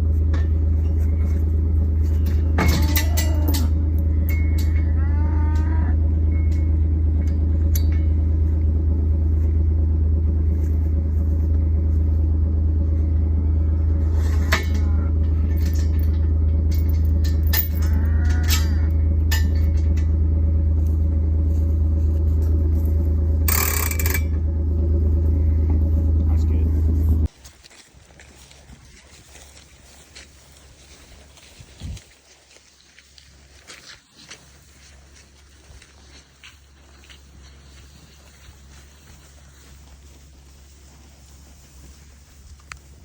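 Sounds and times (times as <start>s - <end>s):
farm vehicle engine rumbling: 0.0s - 43.0s.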